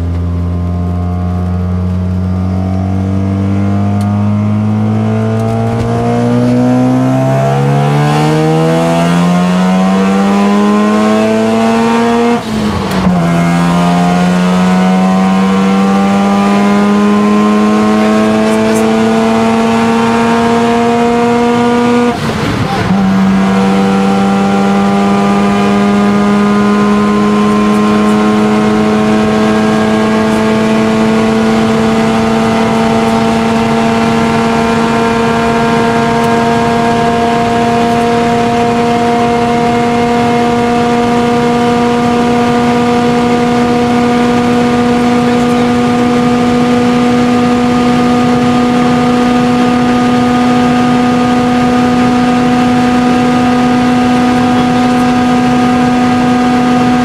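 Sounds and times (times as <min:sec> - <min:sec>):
rotary engine accelerating: 0:00.0 - 0:57.0
wind and road noise: 0:00.0 - 0:57.0.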